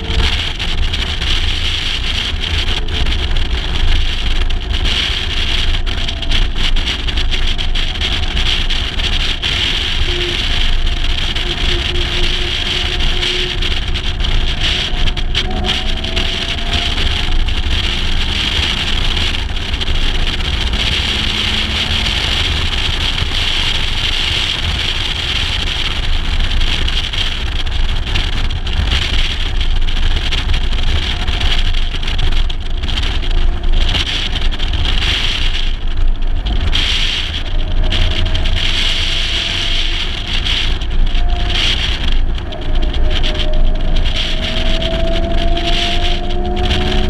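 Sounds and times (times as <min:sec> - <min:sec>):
car engine driving at speed: 0:00.0 - 0:47.0
wind rumble on microphone: 0:00.0 - 0:47.0.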